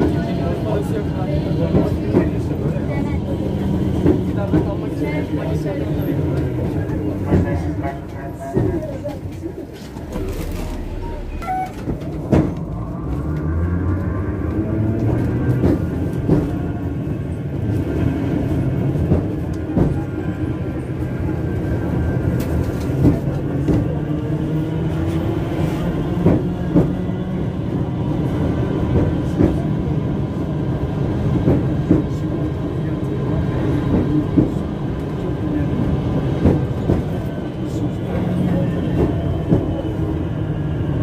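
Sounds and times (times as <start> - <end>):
tram motor and wheels rumble: 0.0 - 41.0
wheels clacking on rails: 0.0 - 41.0.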